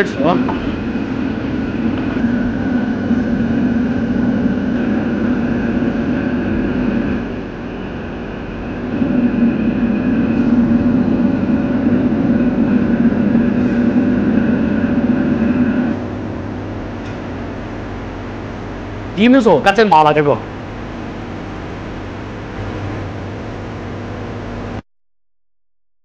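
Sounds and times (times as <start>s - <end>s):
faint whine: 0.0s - 24.8s
wok stove roaring: 0.0s - 24.8s.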